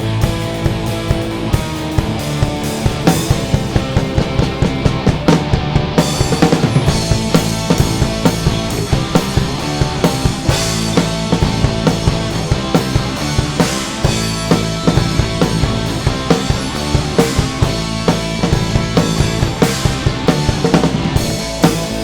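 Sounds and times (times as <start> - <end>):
drum kit beat: 0.0 - 22.0
rock music: 0.0 - 22.0.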